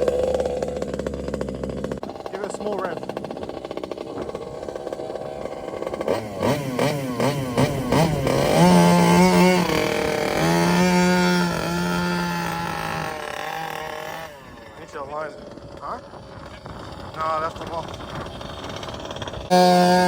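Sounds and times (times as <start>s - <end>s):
two-stroke engine idling and revving: 0.0s - 20.0s.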